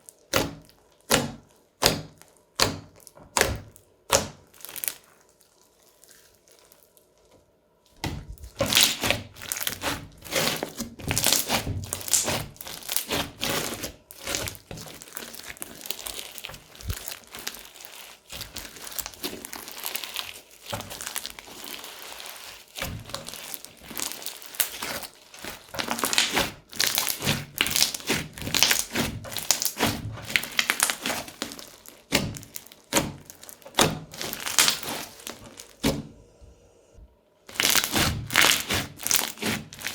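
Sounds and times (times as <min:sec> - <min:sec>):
crunchy slime crackling and popping: 0:00.0 - 0:36.1, 0:37.4 - 0:39.9.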